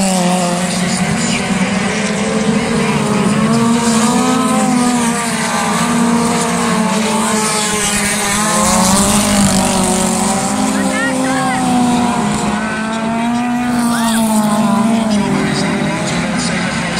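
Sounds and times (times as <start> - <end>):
race car engines running hard: 0.0 - 16.9.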